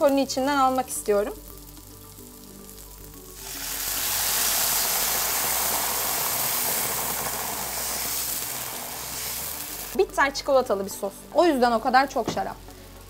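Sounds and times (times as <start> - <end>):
wine sizzling in hot pan: 0.0 - 13.0.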